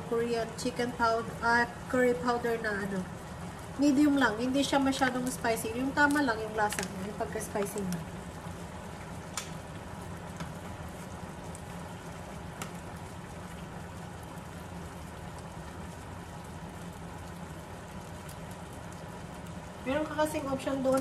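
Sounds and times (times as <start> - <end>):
curry simmering and sizzling: 0.0 - 21.0.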